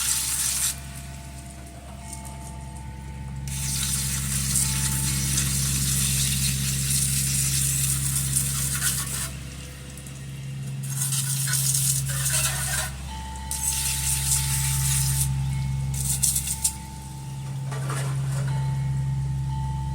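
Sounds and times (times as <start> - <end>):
garden hose spraying water: 0.0 - 2.8, 3.4 - 19.9
steady low hum: 0.0 - 19.9.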